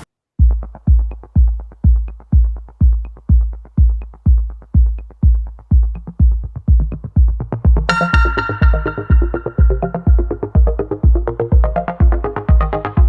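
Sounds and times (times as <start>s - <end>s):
electronic music with booming kick: 0.0s - 13.0s.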